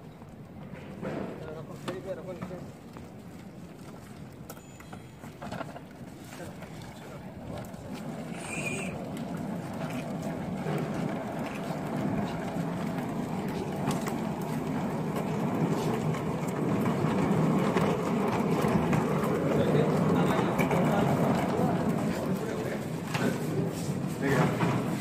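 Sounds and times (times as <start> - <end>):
small wheels rolling on concrete: 0.0 - 25.0.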